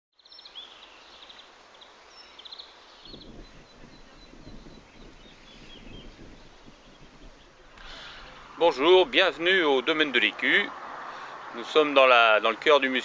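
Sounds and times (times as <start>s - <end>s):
faint hiss: 0.2s - 13.0s
small birds chirping: 0.2s - 13.0s.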